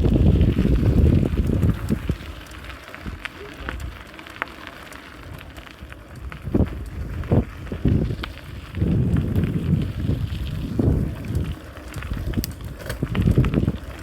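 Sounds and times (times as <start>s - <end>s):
wind buffeting microphone: 0.0s - 4.1s, 5.2s - 14.0s.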